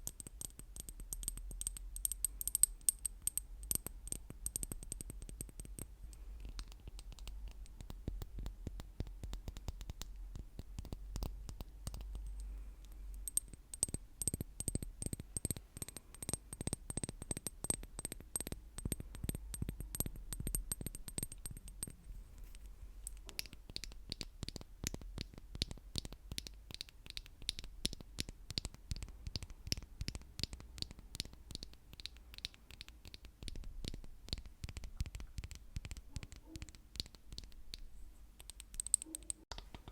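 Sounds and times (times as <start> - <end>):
rapid tapping on hard objects: 0.0 - 39.9.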